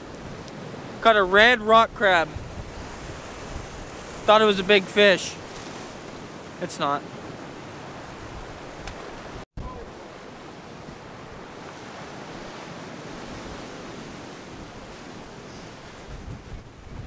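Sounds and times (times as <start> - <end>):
surf breaking over rocks: 0.0 - 16.6
wind: 0.0 - 17.0.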